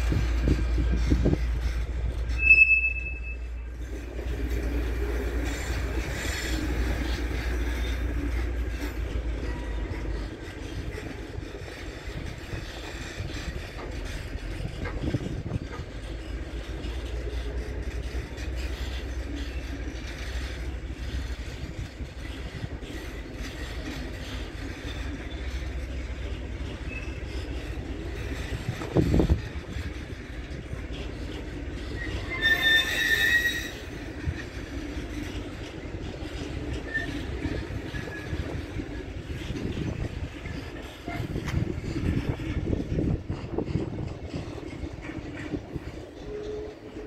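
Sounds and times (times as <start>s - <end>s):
train wagons rumbling on rails: 0.0s - 47.0s
train wheel squeal: 0.0s - 47.0s.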